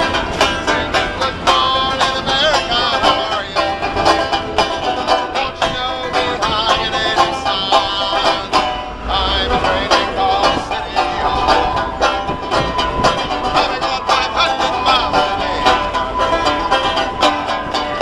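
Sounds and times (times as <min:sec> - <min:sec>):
banjo picking bluegrass: 0:00.0 - 0:18.0
man singing: 0:00.0 - 0:18.0.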